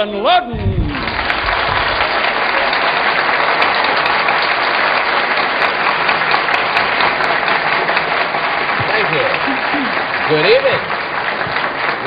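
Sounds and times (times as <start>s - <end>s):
studio audience applauding: 0.6s - 12.0s.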